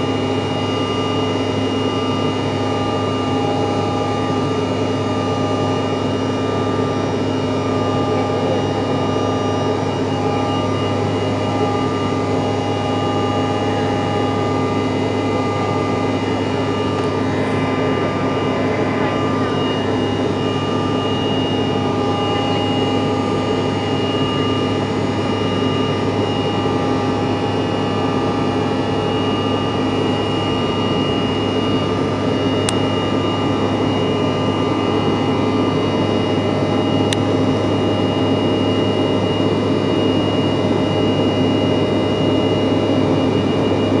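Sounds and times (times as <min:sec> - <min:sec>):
jet engines rumbling with whine: 0:00.0 - 0:44.0.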